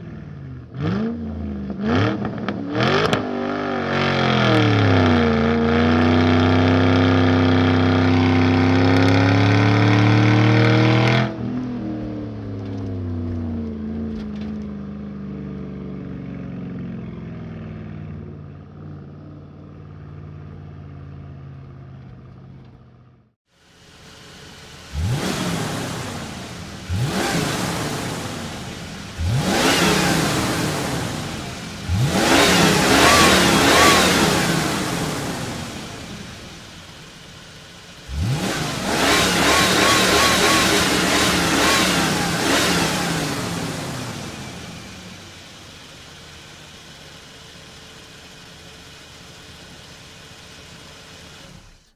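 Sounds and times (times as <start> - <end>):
car engine revving: 0.0 - 22.8, 24.0 - 51.9.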